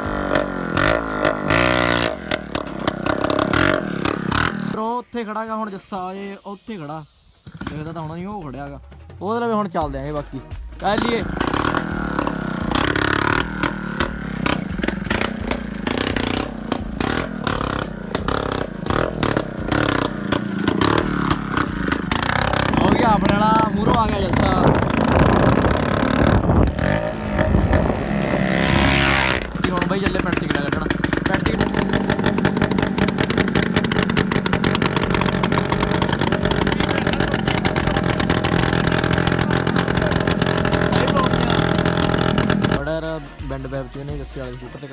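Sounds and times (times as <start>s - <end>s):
loud scooter engine running: 0.0s - 4.8s, 7.5s - 8.3s, 9.8s - 44.3s
sharp exhaust cracks: 0.0s - 43.8s.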